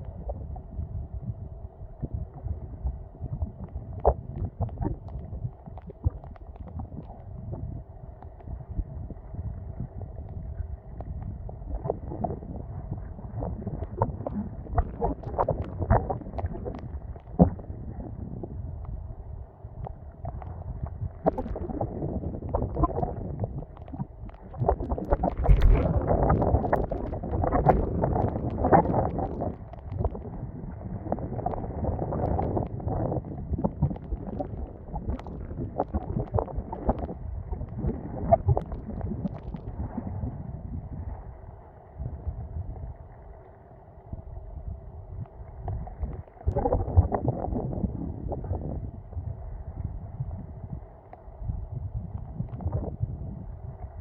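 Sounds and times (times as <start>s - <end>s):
wind buffeting microphone: 0.0s - 41.4s, 44.1s - 54.0s.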